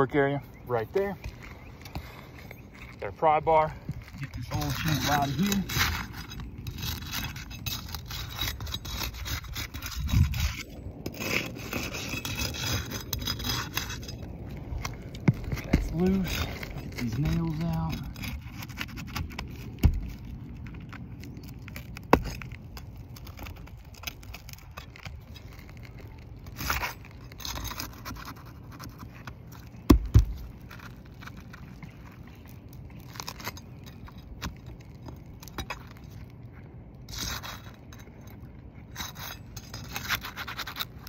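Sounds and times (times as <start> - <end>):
pry bar scraping shingles: 0.7 - 41.0.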